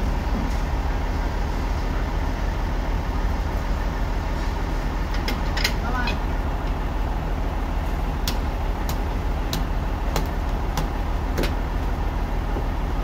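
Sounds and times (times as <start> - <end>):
sawmill machinery humming: 0.0 - 13.0.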